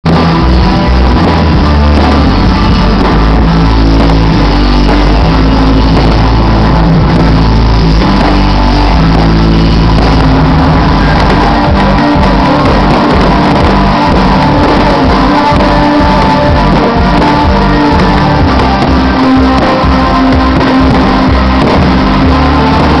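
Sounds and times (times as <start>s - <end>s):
loud rock music with guitar: 0.0s - 23.0s.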